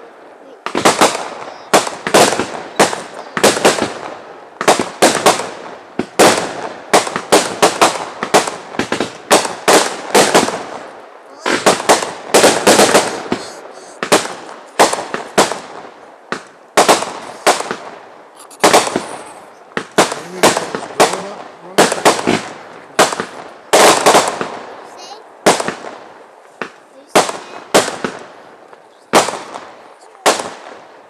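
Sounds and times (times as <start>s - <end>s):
fireworks bangs with echo: 0.0s - 31.0s.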